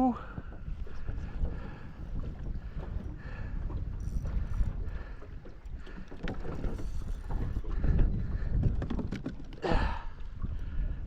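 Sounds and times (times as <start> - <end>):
water around boat: 0.0 - 11.0
wind on microphone: 0.0 - 11.0.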